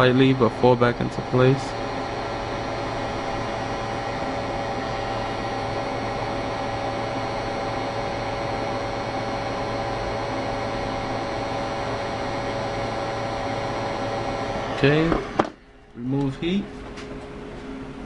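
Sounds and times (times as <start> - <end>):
heat gun fan humming: 0.0 - 18.0.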